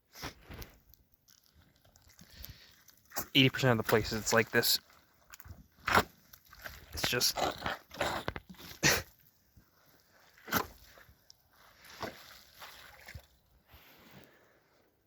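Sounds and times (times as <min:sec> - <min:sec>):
boots squelching through mud: 0:00.2 - 0:13.7.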